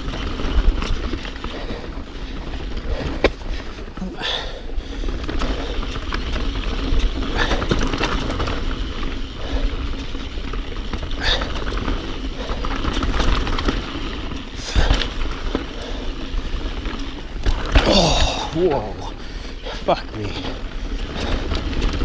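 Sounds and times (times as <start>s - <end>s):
bike tyres rumbling on dirt trail: 0.0s - 22.0s.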